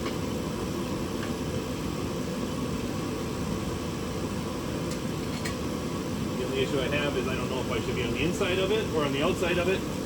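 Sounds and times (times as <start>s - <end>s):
space heater humming: 0.0s - 10.0s.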